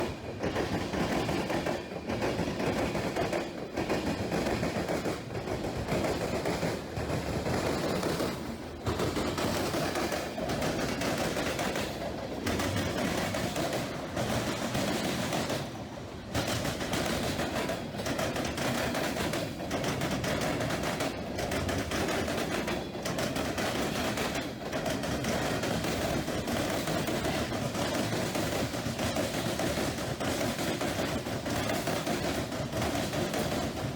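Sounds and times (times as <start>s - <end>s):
model train rattling clatter: 0.0s - 33.9s.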